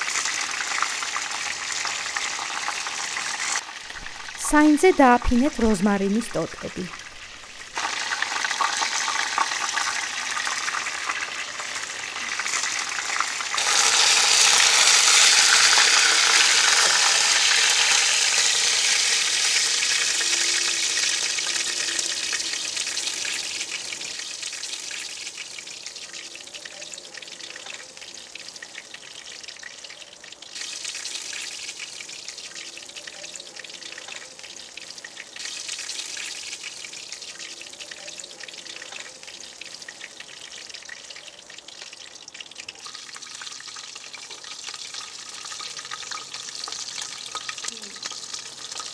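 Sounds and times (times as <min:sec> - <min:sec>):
food sizzling in hot fat: 0:00.0 - 0:48.9.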